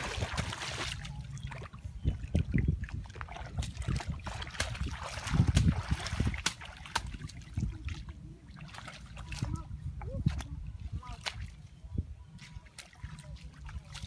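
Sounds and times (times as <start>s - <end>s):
feet sloshing through water: 0.0s - 14.0s.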